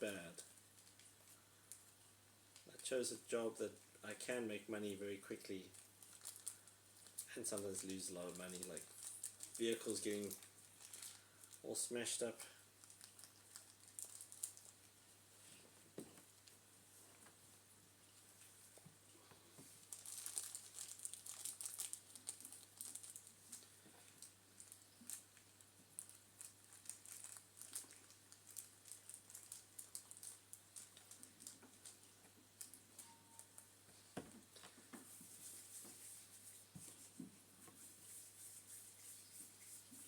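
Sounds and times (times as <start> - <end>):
faint crinkling: 0.0 - 40.0.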